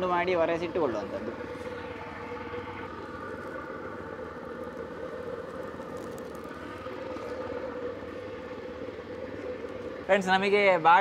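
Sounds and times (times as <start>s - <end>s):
mechanical hum with held tones: 0.0s - 11.0s.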